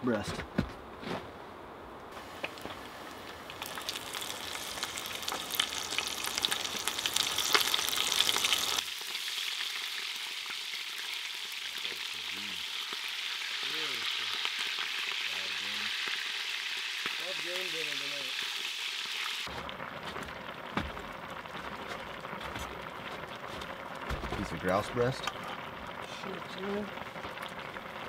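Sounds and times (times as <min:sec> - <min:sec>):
meat frying in hot oil: 0:02.2 - 0:28.0.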